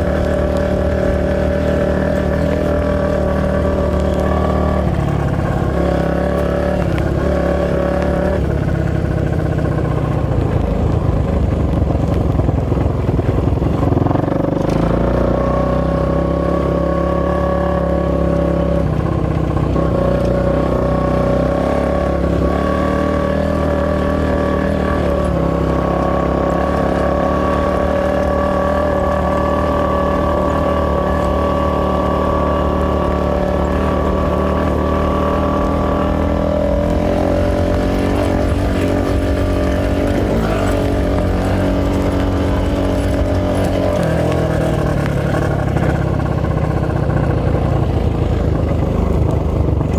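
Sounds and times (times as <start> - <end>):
off-road motorcycle engine running: 0.0 - 49.9.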